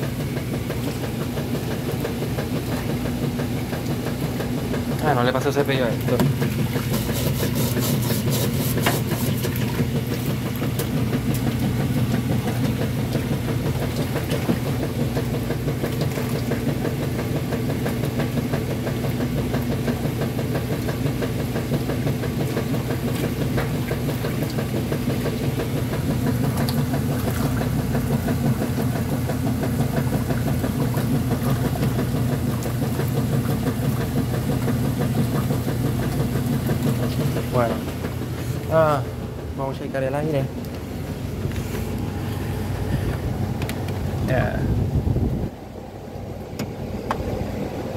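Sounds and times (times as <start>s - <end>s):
washing machine motor hum: 0.0s - 47.9s.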